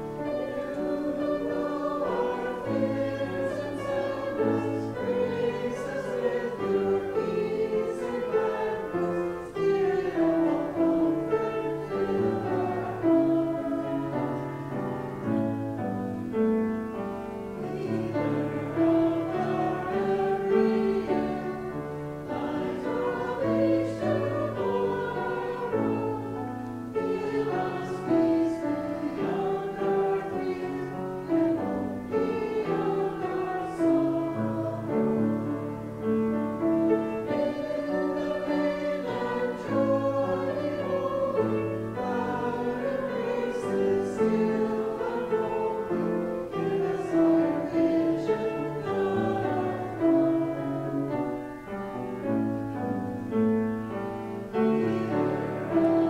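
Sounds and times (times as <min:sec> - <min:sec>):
congregation singing a hymn: 0:00.0 - 0:56.0
piano accompaniment: 0:00.0 - 0:56.0.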